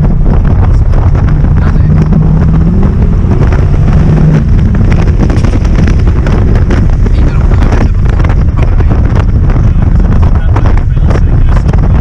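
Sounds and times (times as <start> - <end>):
sports car engine and exhaust: 0.0 - 12.0
wind buffeting microphone: 0.0 - 12.0.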